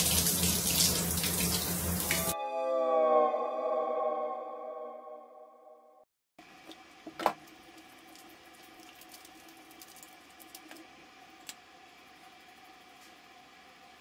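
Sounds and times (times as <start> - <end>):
bathroom hum: 0.0 - 4.0, 6.4 - 14.0.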